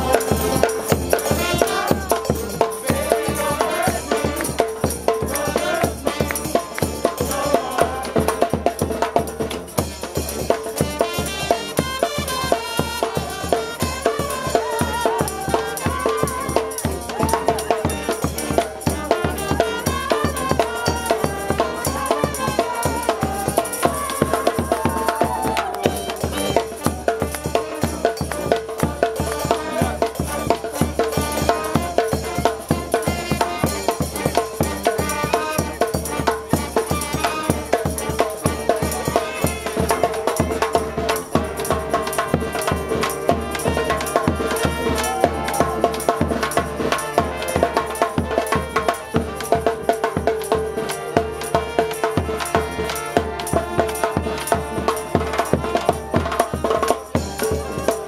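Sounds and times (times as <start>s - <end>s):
brass band playing: 0.0s - 58.0s
drum and cymbal beat: 0.0s - 58.0s.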